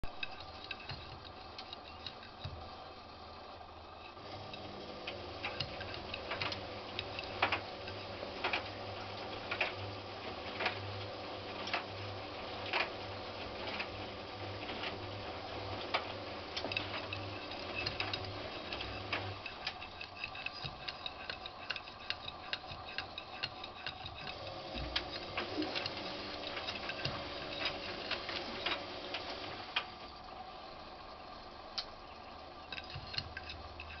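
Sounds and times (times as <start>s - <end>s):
washing machine drum humming: 0.0s - 34.0s.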